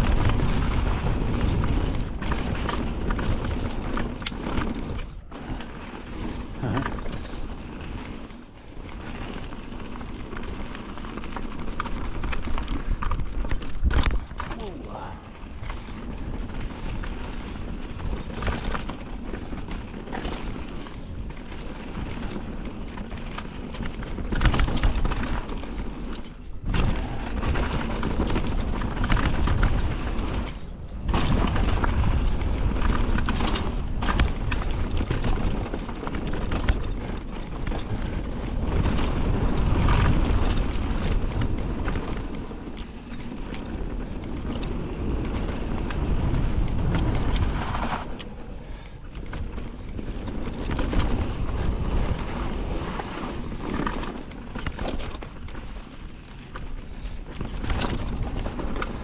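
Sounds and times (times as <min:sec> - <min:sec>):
mountain bike rattling: 0:00.0 - 0:59.0
wind rumbling on microphone: 0:00.0 - 0:59.0.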